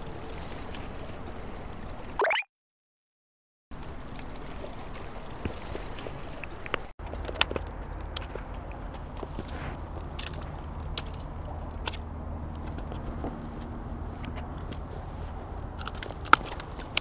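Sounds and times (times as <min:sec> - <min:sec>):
water noise: 0:00.0 - 0:02.5, 0:03.7 - 0:17.0.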